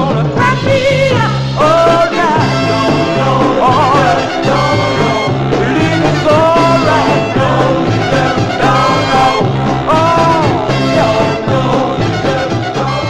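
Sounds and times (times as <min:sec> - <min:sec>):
band with walking bass: 0:00.0 - 0:13.0
male group singing soul: 0:00.0 - 0:13.0.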